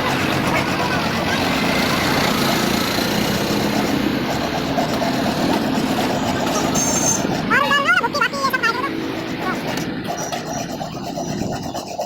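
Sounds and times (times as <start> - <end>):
engine idling: 0.0 - 11.2.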